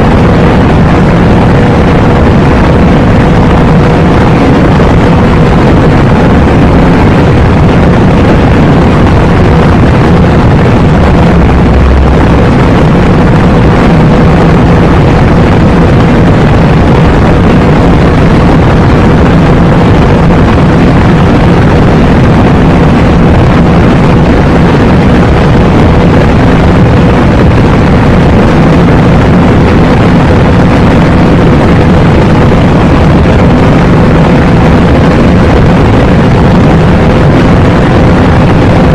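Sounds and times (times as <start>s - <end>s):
car engine droning at high speed: 0.0s - 38.9s
wind noise: 0.0s - 38.9s.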